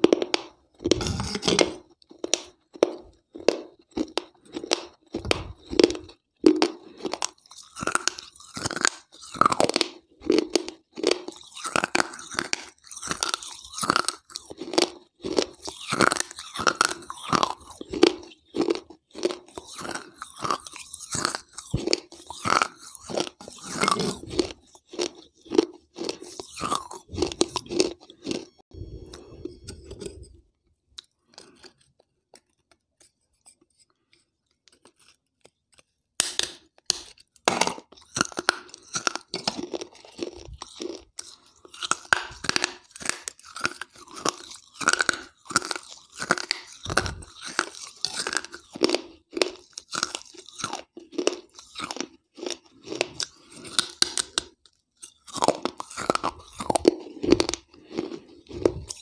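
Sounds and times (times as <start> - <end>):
chewing gritty clay crunches: 0.0 - 30.4, 31.0 - 59.0.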